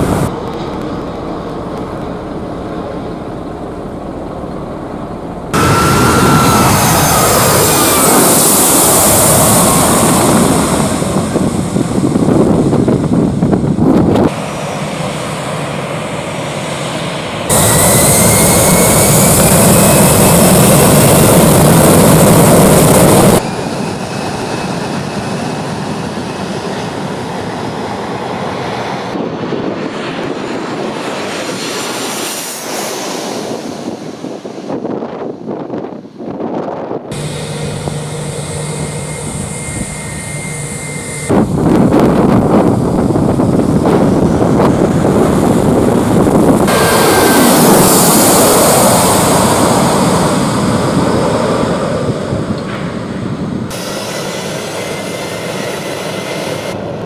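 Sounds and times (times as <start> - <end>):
high whine rising in pitch: 0.0 - 29.2, 30.2 - 35.7, 37.0 - 57.0
jet engines roaring: 0.0 - 57.0.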